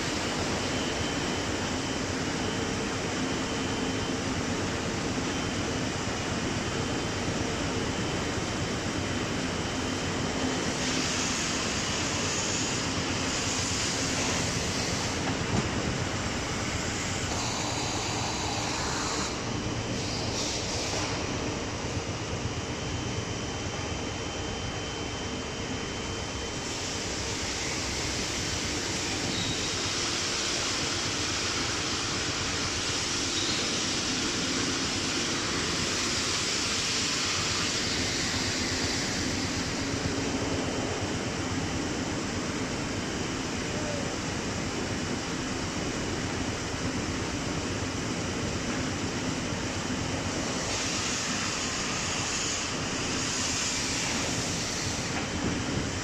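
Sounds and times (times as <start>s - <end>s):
conveyors and plant machinery din: 0.0s - 56.0s.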